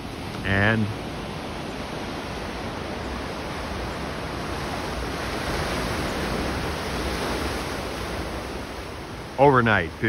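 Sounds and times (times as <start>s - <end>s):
ocean surf breaking on rocks: 0.0s - 10.0s.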